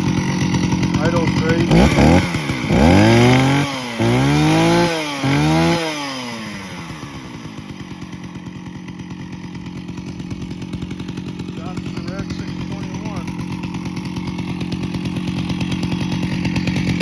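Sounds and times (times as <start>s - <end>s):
chainsaw revving and idling: 0.0s - 17.0s.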